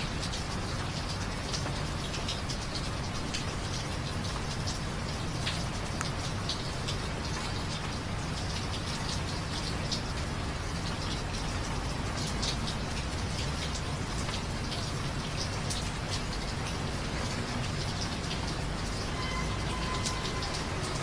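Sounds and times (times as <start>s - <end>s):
low rain rumble: 0.0s - 21.0s
raindrops striking close by: 0.0s - 21.0s.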